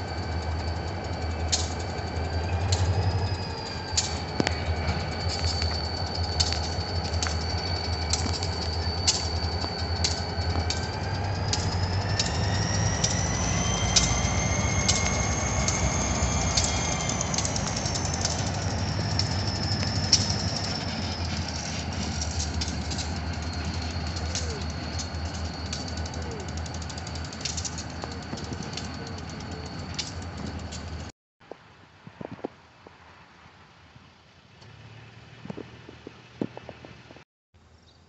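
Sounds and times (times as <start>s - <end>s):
high whine: 0.0s - 31.1s
wheels clicking over rail joints: 0.0s - 31.1s
low engine rumble: 0.0s - 33.3s.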